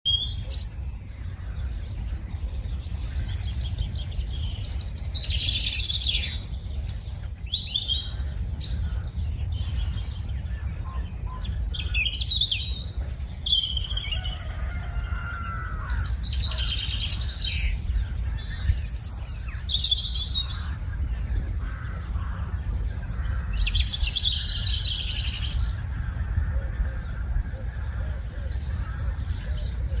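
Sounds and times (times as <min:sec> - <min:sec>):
birds chirping and singing: 0:00.0 - 0:30.0
low rumble: 0:00.1 - 0:30.0.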